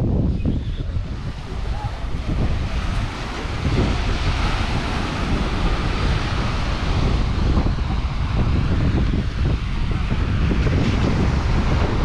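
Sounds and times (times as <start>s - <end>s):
wind buffeting microphone: 0.0s - 12.0s
surf breaking on sand: 0.1s - 12.0s.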